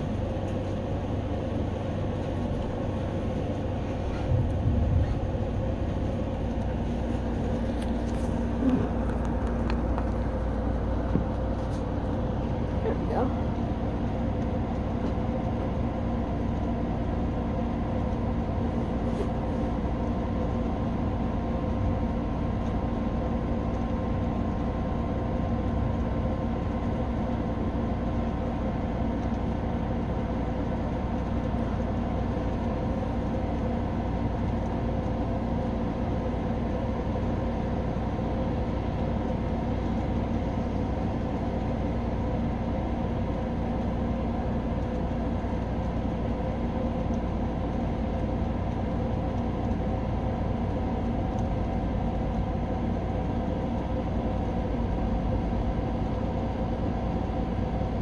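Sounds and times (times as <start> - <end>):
steady mechanical hum and rumble: 0.0 - 58.0.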